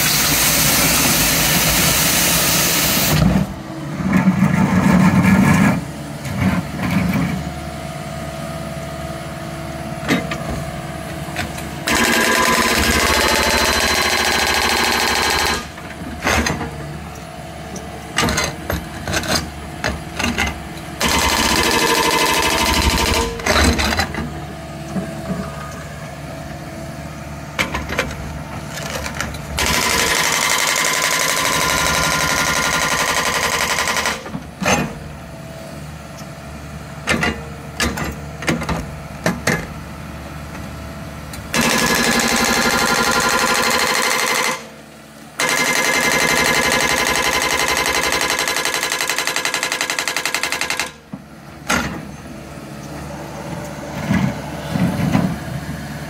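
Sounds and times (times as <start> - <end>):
planer grinding asphalt: 0.0 - 35.4, 38.9 - 56.0.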